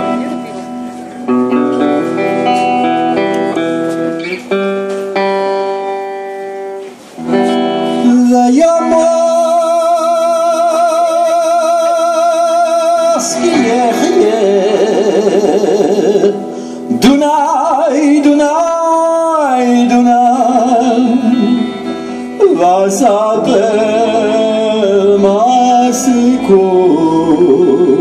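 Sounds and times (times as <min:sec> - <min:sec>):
plucked string notes: 0:00.0 - 0:18.0, 0:19.6 - 0:28.0.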